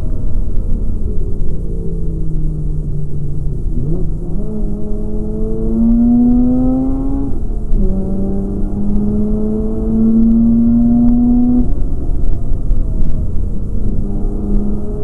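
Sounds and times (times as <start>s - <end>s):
car engine revving in cabin: 0.0s - 15.0s.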